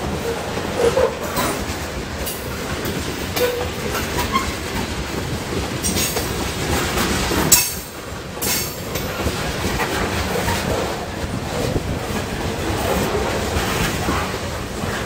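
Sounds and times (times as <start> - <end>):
train wheels rumbling on rails: 0.0 - 15.0
wheels and couplers clanking: 0.1 - 15.0.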